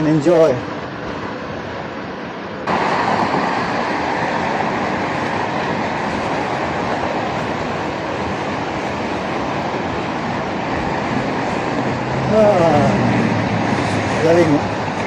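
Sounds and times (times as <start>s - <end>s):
road and tyre noise: 0.0s - 15.0s
wind on microphone: 0.0s - 15.0s.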